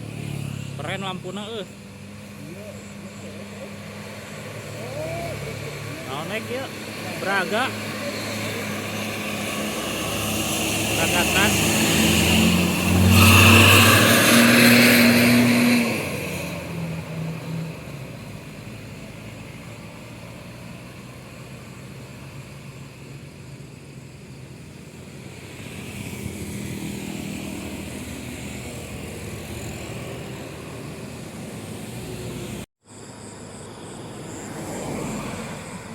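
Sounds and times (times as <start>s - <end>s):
heavy vehicle engine passing: 0.0s - 35.9s
road noise: 0.0s - 35.9s
vehicle approaching: 0.0s - 35.9s.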